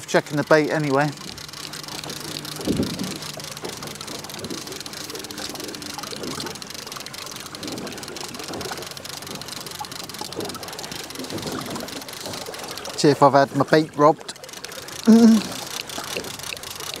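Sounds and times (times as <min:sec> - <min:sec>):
fishing reel winding: 0:00.0 - 0:17.0
low steady hum: 0:00.0 - 0:17.0
water slapping boat hull: 0:00.0 - 0:17.0
wind: 0:00.0 - 0:17.0.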